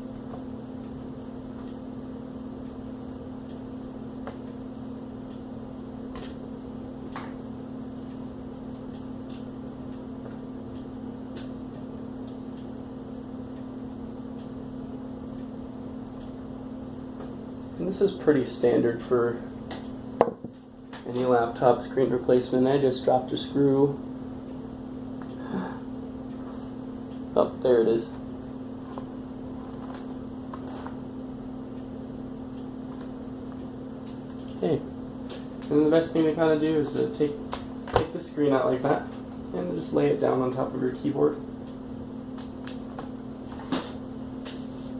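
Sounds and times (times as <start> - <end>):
steady hum: 0.0 - 44.9.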